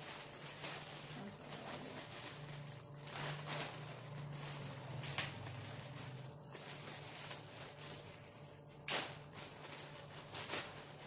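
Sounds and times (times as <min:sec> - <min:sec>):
low steady hum: 0:00.0 - 0:11.0
plastic bag crinkling: 0:00.0 - 0:11.0.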